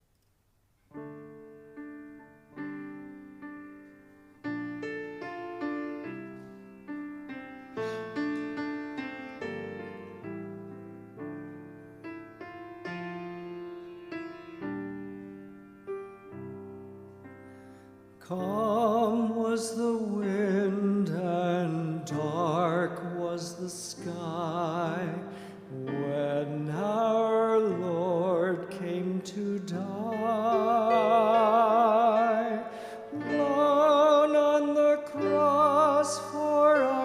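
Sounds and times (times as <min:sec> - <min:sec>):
slow solo piano chords: 0:00.9 - 0:37.0.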